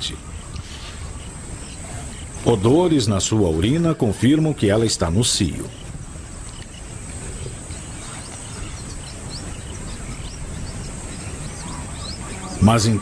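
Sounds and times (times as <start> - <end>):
small birds chirping: 0.0 - 13.0
steady background rumble: 0.0 - 13.0.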